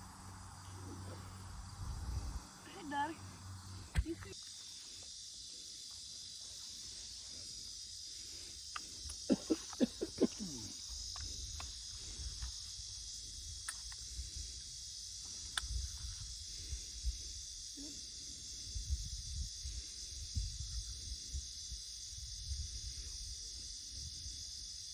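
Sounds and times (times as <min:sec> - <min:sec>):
insects singing: 0:00.0 - 0:24.9.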